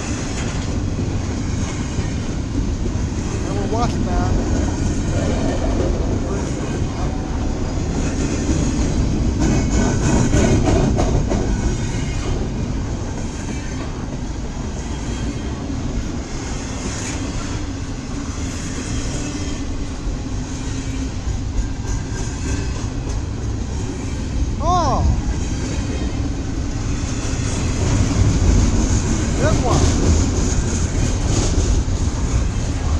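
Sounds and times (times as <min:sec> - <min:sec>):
freight train rumbling on rails: 0:00.0 - 0:32.9.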